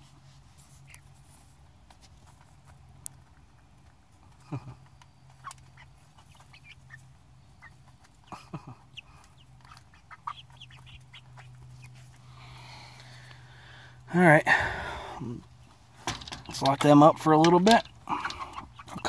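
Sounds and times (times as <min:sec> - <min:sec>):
chicks peeping and chirping: 0:00.4 - 0:19.0.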